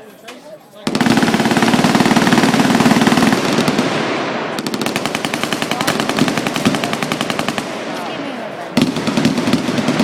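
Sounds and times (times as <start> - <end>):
machine-gun fire: 0.9 - 8.1, 8.8 - 10.0.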